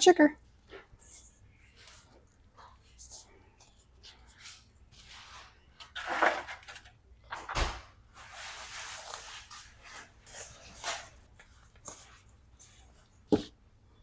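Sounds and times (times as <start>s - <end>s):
food rustling and scraping: 0.6s - 6.9s, 8.2s - 13.5s.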